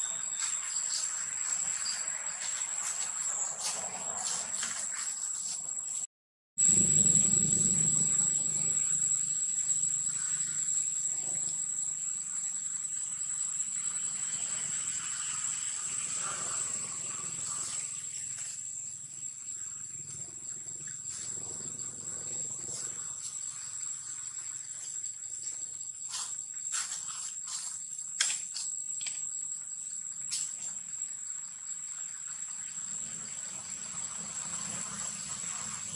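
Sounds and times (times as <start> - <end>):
high-pitched insect drone: 0.0 - 35.9.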